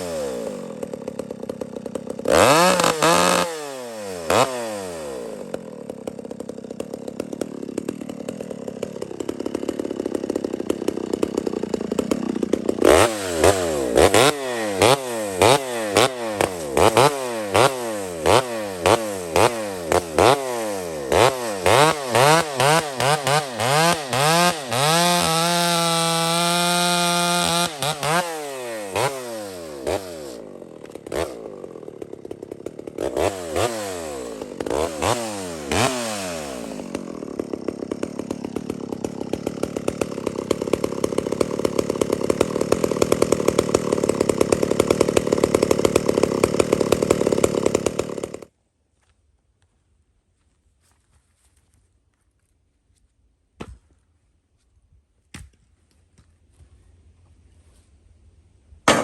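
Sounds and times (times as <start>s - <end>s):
chainsaw idling and revving: 0.0s - 48.6s.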